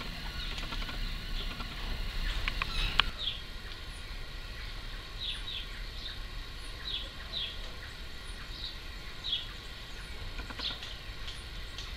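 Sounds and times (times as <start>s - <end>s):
bird chirping: 0.0s - 11.9s
low background rumble: 0.0s - 11.9s.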